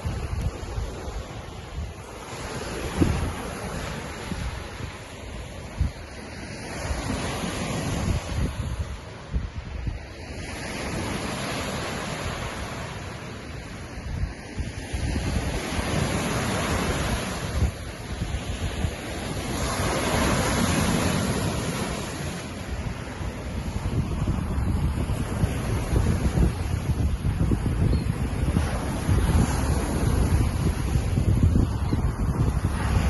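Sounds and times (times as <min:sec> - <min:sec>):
lake waves washing against shore: 0:00.0 - 0:33.0
wind buffeting microphone: 0:00.0 - 0:33.0.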